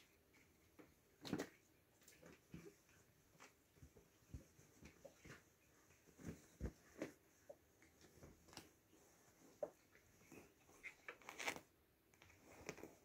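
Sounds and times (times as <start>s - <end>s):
kittens rustling on fabric: 0.0s - 13.0s.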